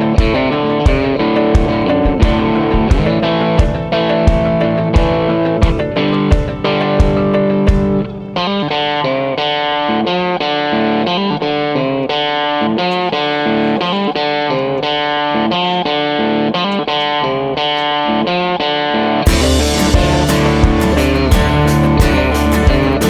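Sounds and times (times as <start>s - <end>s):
guitar playing single notes: 0.0s - 23.0s.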